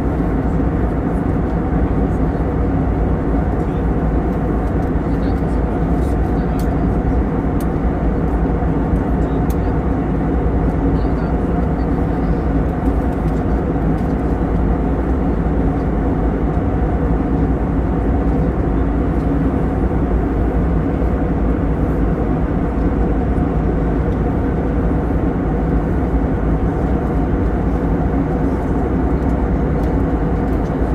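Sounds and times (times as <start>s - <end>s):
airplane cabin engine roar: 0.0s - 30.9s.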